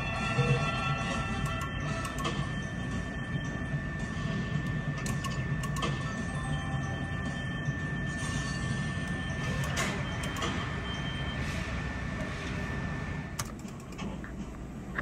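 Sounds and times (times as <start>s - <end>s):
high electronic tone: 0.0s - 13.0s
low room hum: 0.0s - 15.0s.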